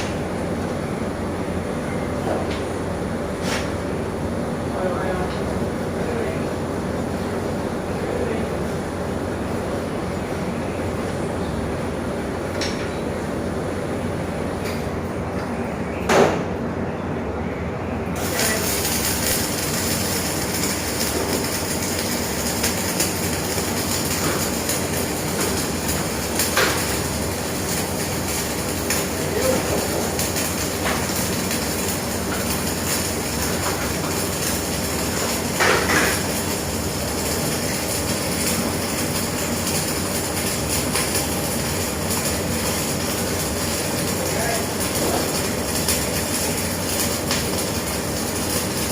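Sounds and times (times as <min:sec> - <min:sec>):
welding arc crackling hiss: 0:02.4 - 0:11.2, 0:18.1 - 0:48.9.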